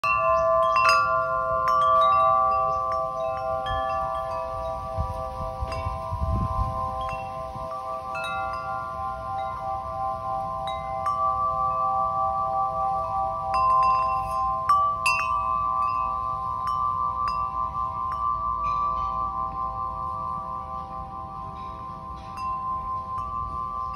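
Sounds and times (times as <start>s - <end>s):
metal tube wind chime ringing: 0.0s - 23.9s.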